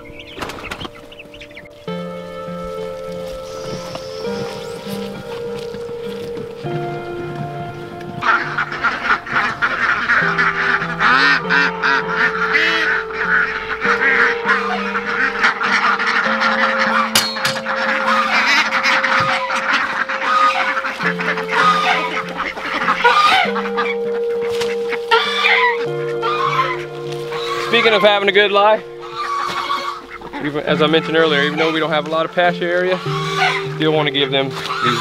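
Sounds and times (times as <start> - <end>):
background music with held chords: 0.0 - 35.0
chickens clucking: 0.0 - 35.0
ducks quacking: 0.0 - 35.0.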